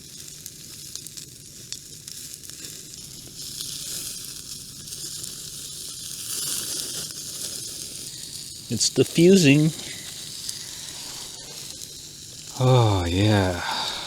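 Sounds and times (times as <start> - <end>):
steak sizzling on a grill: 0.0 - 14.0.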